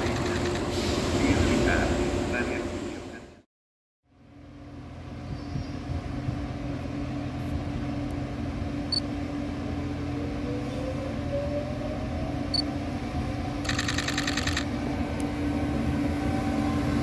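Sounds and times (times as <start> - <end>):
train passing hum: 0.0 - 3.4, 4.1 - 17.0.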